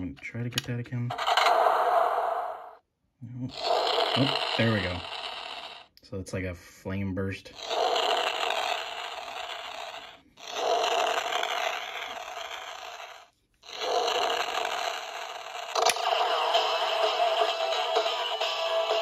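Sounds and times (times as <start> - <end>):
toy flame sound effect hissing: 1.1 - 2.8, 3.5 - 5.9, 7.6 - 19.0.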